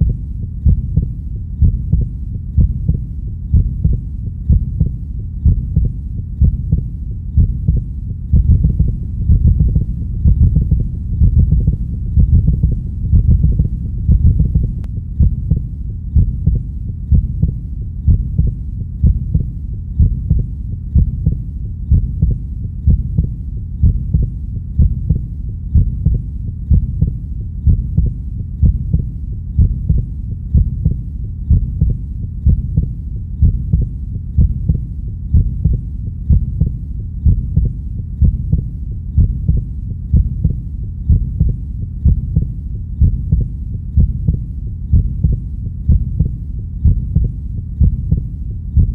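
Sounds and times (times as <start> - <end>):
continuous low rumble: 0.0 - 48.9
heartbeat: 0.0 - 48.9.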